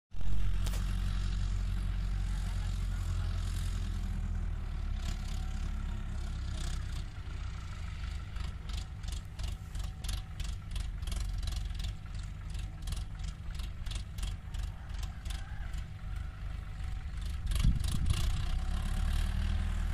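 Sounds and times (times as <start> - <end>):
diesel engines droning: 0.1 - 19.9.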